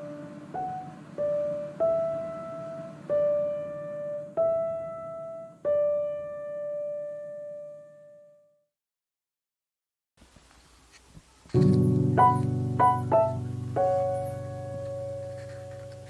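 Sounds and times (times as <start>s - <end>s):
slow piano notes: 0.0s - 8.6s, 11.5s - 16.0s.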